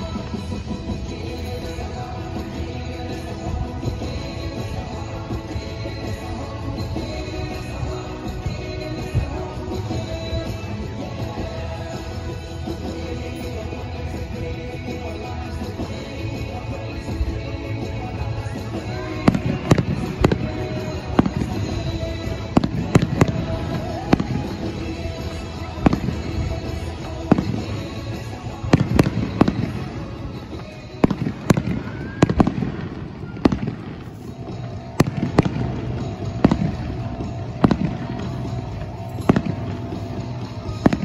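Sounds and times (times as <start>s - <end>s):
fireworks bursting: 0.0s - 41.0s
music playing: 0.0s - 41.0s.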